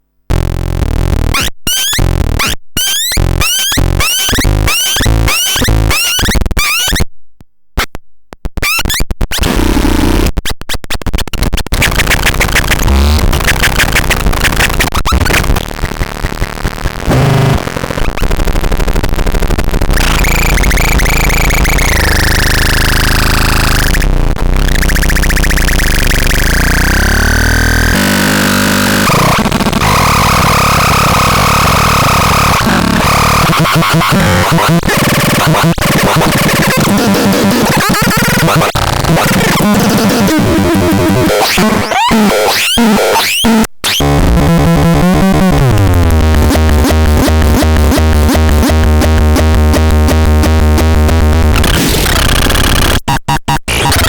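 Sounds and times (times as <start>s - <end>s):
rapid stuttering clicks: 8.4s - 54.0s.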